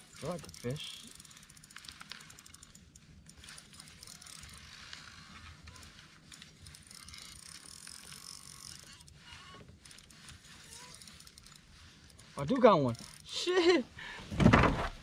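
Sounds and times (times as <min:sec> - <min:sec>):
fishing reel whirring: 0:00.0 - 0:13.8.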